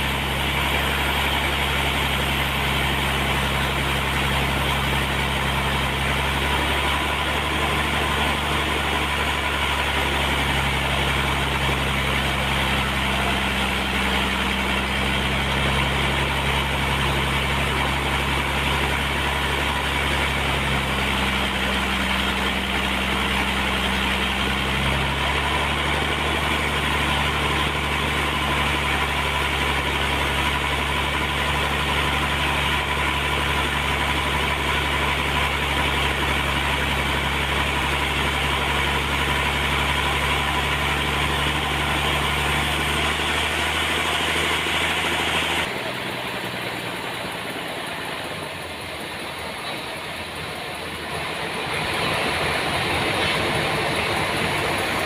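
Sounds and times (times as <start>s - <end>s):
sawmill engine hum: 0.0s - 55.0s.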